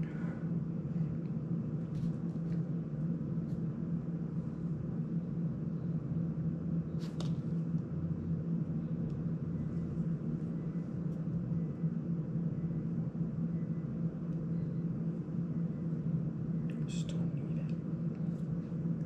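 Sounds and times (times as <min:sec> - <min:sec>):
fan motor hum: 0:00.0 - 0:19.0.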